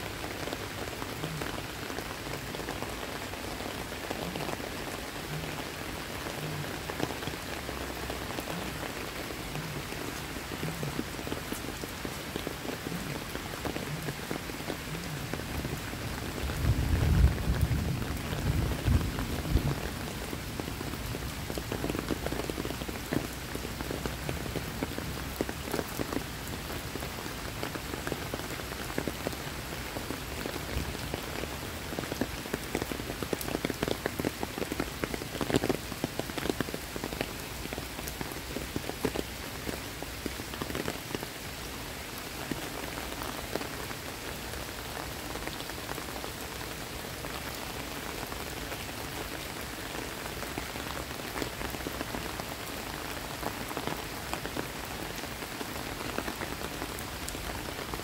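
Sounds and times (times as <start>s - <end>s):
rain on foliage and paving: 0.0s - 58.0s.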